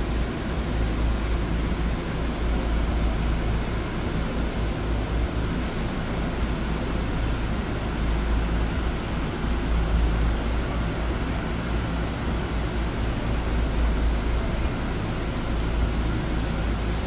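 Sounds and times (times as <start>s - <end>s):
air conditioners running: 0.0s - 17.0s
low room rumble and hiss: 0.0s - 17.0s.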